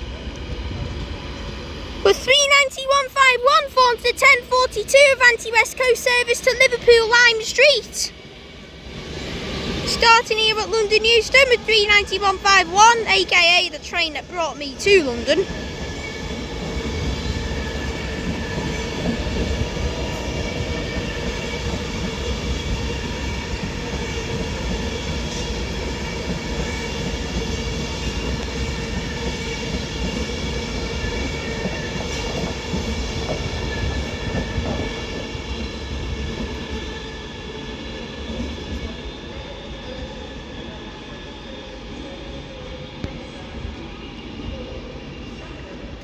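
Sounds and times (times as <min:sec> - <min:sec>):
electric train whine: 0:00.0 - 0:46.0
train wheels rumbling: 0:00.0 - 0:46.0.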